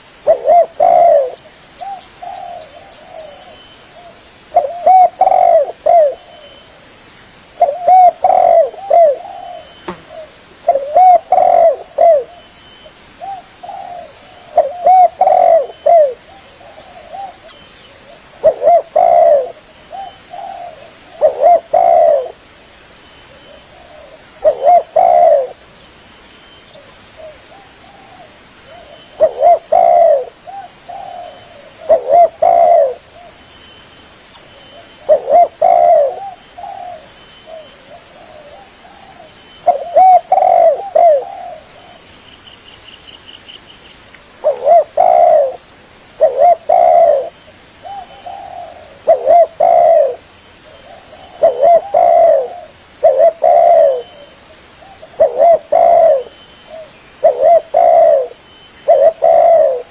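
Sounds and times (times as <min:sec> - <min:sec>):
dove cooing: 0:00.0 - 0:06.6, 0:07.5 - 0:12.5, 0:13.2 - 0:22.4, 0:23.3 - 0:25.6, 0:26.8 - 0:33.4, 0:34.7 - 0:42.1, 0:44.4 - 0:45.6, 0:46.2 - 0:59.9.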